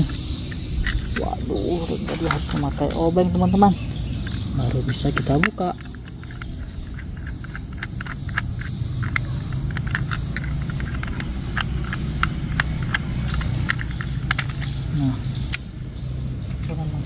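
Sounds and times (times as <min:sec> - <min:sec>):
low rumble: 0:00.0 - 0:15.5.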